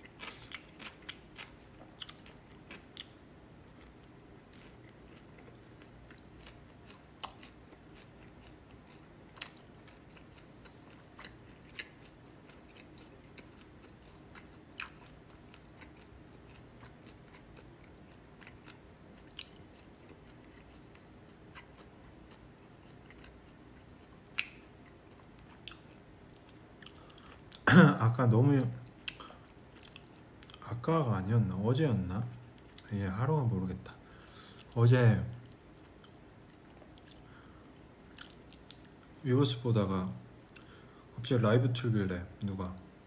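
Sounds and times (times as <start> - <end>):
person chewing noodles: 0.0 - 27.6, 28.8 - 30.6, 34.0 - 39.2, 40.2 - 41.1
low room hum: 0.0 - 43.0.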